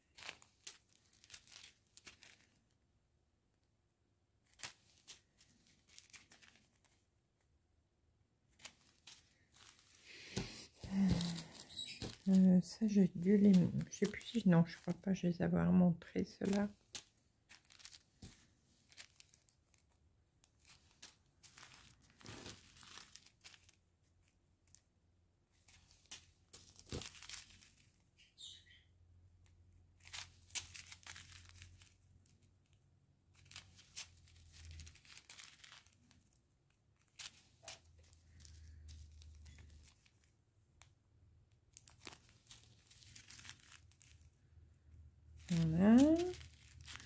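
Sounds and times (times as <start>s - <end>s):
plastic bags rustling: 0.0s - 2.7s, 4.4s - 7.0s, 8.5s - 24.8s, 25.6s - 28.0s, 30.0s - 32.7s, 33.3s - 36.4s, 37.0s - 40.3s, 41.7s - 44.6s, 45.3s - 47.0s.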